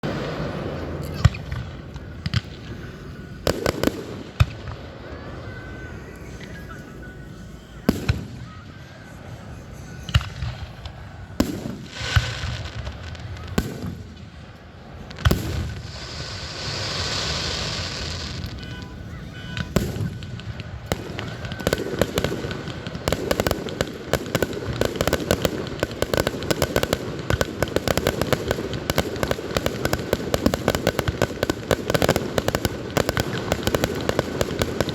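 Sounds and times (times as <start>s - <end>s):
crackling hiss: 0.0s - 34.9s
barrage of rapid firework pops: 1.0s - 2.8s, 3.4s - 4.8s, 7.9s - 8.6s, 10.0s - 14.4s, 15.1s - 34.9s.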